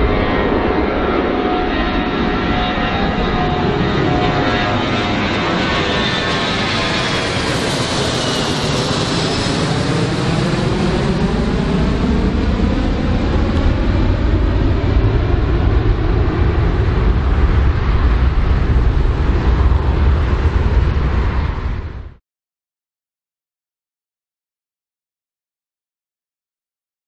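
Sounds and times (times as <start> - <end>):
jet airliner climbing: 0.0 - 22.2.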